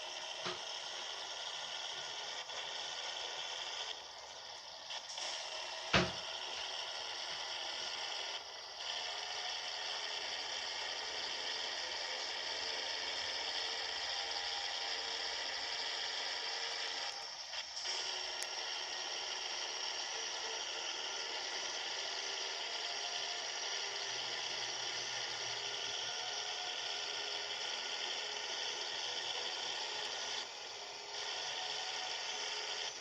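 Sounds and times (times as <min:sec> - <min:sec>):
truck mechanical whine and rattle: 0:00.0 - 0:33.0.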